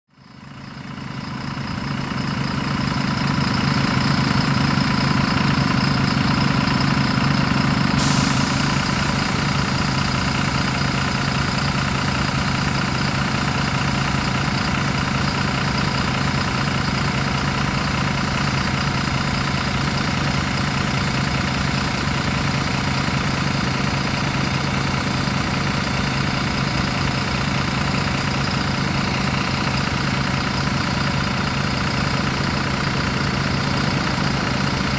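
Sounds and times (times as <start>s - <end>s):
diesel bus engine idling: 0.1s - 34.9s.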